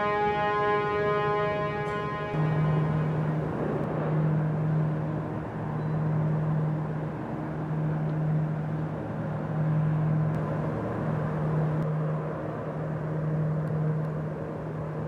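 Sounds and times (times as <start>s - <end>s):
ship engine hum: 0.0s - 15.0s.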